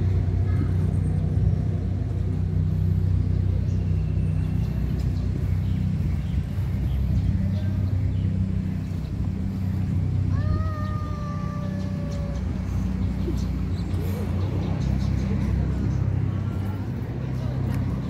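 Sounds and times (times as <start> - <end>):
engine hum: 0.0 - 18.0
traffic rumble: 0.0 - 18.0.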